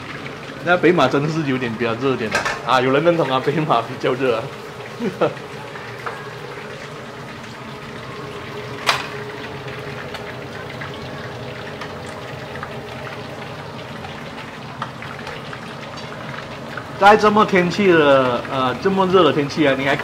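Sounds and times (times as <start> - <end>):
hot oil sizzling and bubbling: 0.0 - 20.0.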